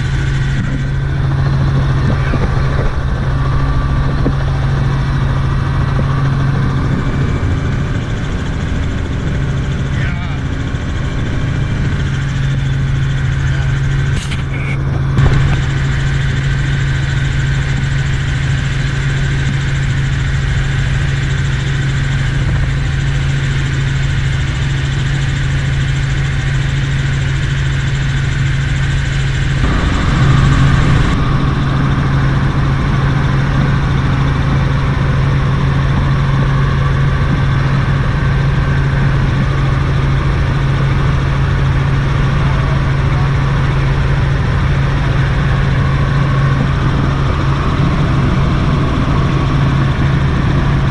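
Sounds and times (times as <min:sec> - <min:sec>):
helicopter engine and rotors droning: 0:00.0 - 0:50.9.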